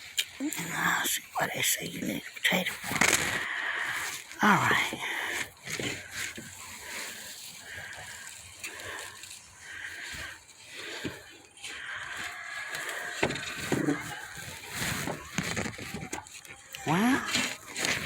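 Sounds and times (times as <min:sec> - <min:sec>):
soil scraped by hand: 0:02.8 - 0:18.0.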